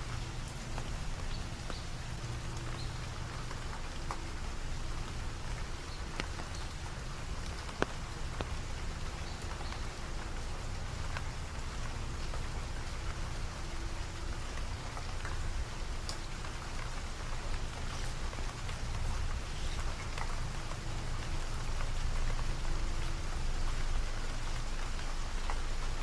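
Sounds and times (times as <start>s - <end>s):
drops ticking: 0.0s - 26.0s
steady rain falling: 0.0s - 26.0s.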